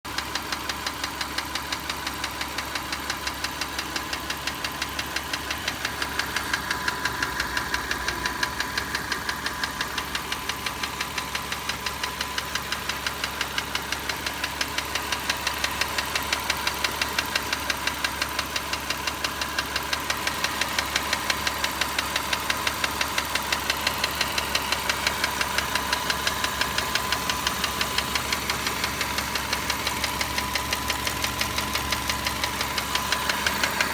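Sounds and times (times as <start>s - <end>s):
car engine idling with ticking: 0.1s - 33.9s.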